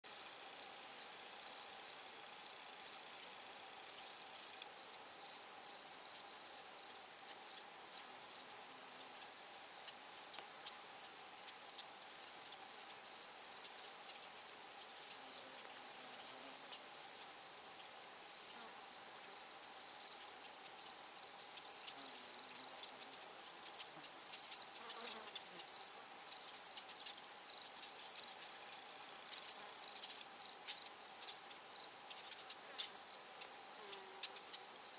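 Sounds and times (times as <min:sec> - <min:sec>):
insect chorus trilling: 0:00.1 - 0:34.9.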